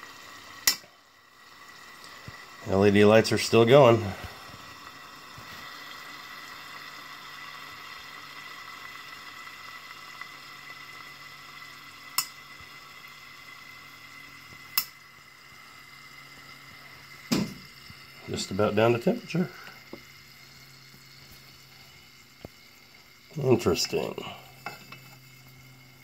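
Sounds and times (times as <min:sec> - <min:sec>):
liquid nitrogen fizzing hiss: 0:00.0 - 0:26.0.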